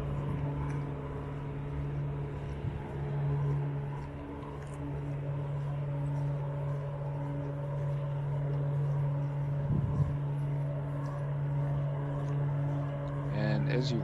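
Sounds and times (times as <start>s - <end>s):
low mechanical hum: 0.0s - 14.0s
street traffic: 0.0s - 14.0s.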